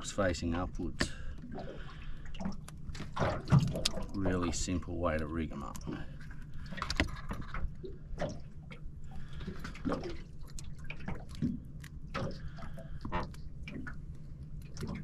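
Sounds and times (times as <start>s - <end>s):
steady low hum: 0.0s - 15.0s
water lapping against boat hull: 0.0s - 15.0s.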